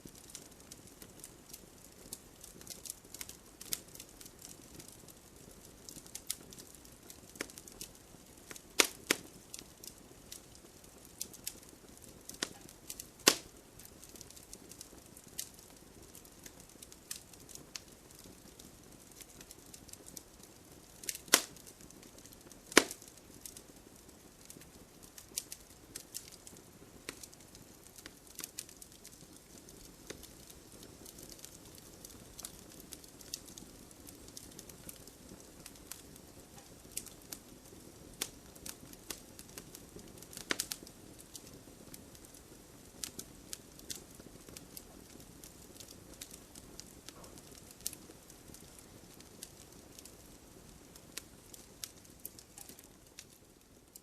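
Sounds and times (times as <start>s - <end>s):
loud fire pops: 0.0s - 53.3s
campfire crackling: 0.0s - 54.0s
hiss of flames: 0.0s - 54.0s.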